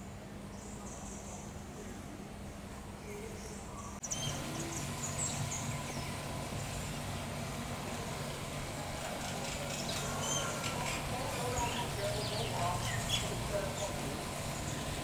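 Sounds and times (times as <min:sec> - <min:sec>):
steady low background hum: 0:00.0 - 0:15.0.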